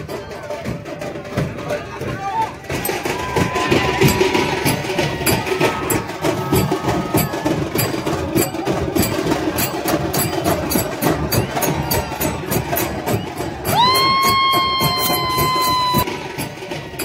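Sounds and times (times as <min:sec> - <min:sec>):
crowd din: 0:00.0 - 0:17.0
fast sharp drumming: 0:00.0 - 0:17.0.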